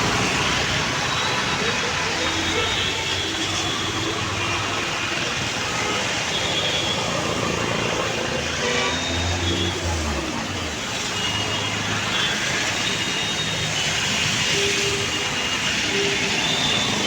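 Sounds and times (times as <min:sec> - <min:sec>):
rain hiss: 0:00.0 - 0:17.0
street traffic: 0:00.0 - 0:17.0.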